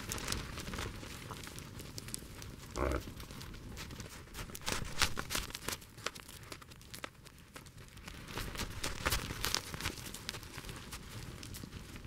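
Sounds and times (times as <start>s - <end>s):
hooves crunching in snow: 0.0s - 12.0s.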